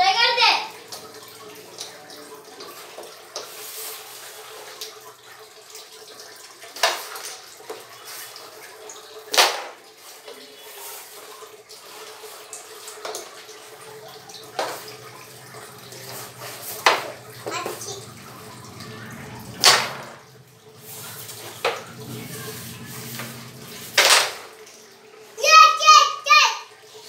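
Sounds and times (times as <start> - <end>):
water splashing and sloshing: 0.1 - 27.0.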